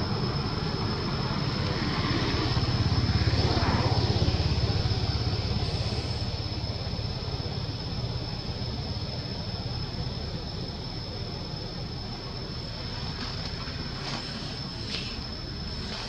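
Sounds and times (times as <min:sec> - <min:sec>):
steady high-pitched whine: 0:00.0 - 0:16.0.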